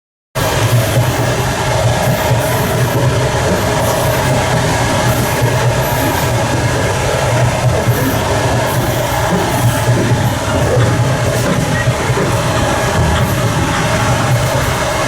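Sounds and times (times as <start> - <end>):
train wheels rumbling on rails: 0.4 - 15.0.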